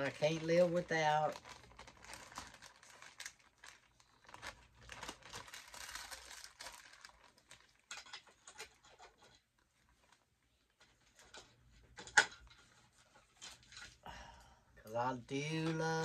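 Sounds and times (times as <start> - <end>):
package crinkling and rustling: 0.0 - 14.0.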